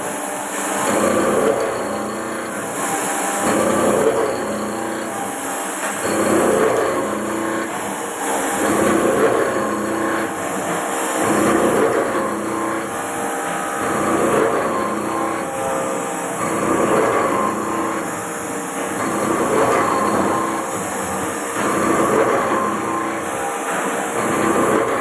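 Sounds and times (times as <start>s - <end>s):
machine cutting metal: 0.0s - 25.0s.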